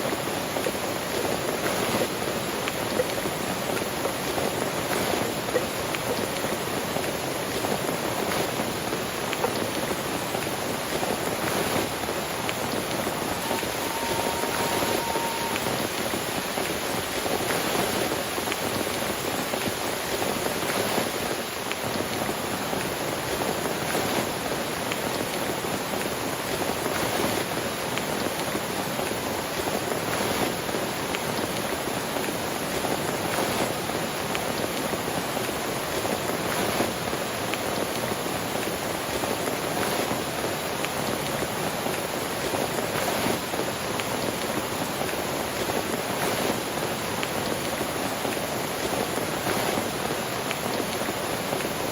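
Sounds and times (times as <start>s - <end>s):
heavy rain on a tent: 0.0s - 51.9s.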